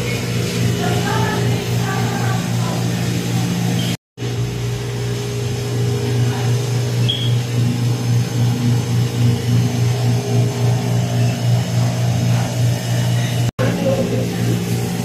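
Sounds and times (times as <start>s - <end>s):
low pulsing electrical hum: 0.0s - 15.0s.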